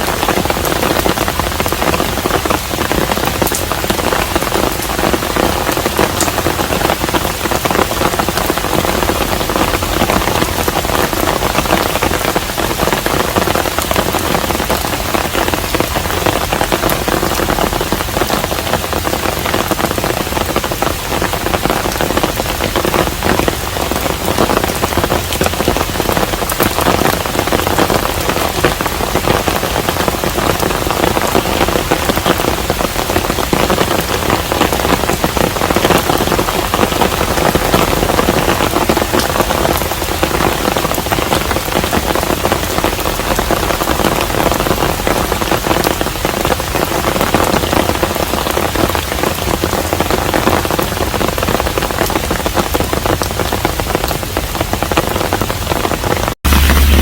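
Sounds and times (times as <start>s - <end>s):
raindrops ticking: 0.0s - 57.0s
steady rain: 0.0s - 57.0s.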